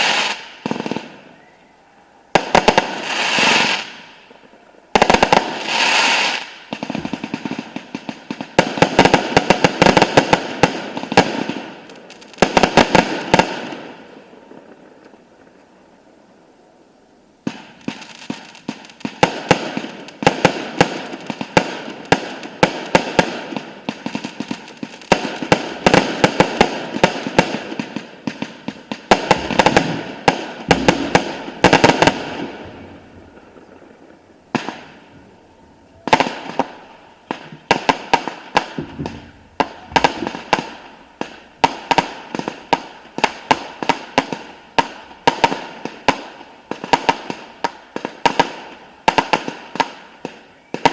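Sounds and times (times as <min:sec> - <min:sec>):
fireworks bangs and cracks: 0:00.0 - 0:01.3, 0:02.3 - 0:15.7, 0:17.4 - 0:50.9.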